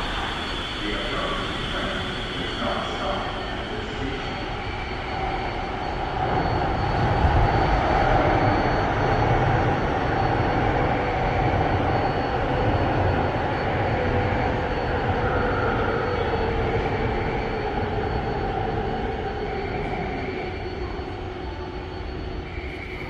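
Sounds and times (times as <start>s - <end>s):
electric train rumble and hum: 0.0s - 23.0s.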